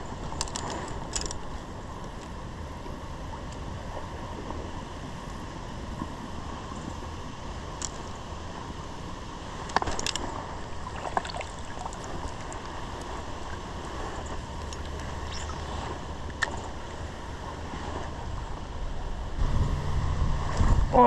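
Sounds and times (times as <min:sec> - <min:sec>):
river current rushing: 0:00.0 - 0:21.0
wind rumble on microphone: 0:00.0 - 0:21.0.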